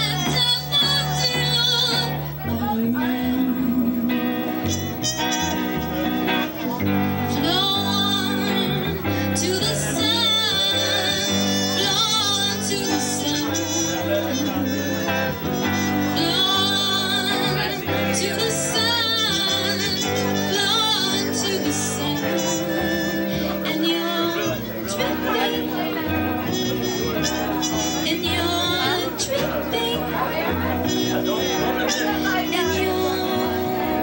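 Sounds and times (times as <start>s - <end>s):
bass: 0.0s - 34.0s
electric guitar: 0.0s - 34.0s
person singing: 0.0s - 34.0s.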